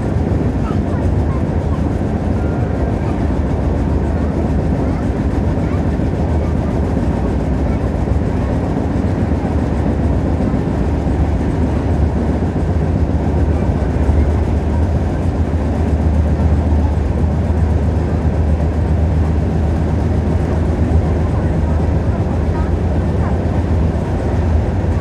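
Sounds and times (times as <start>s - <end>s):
train coach deep hum: 0.0s - 25.0s
wheels rumbling on rails: 0.0s - 25.0s.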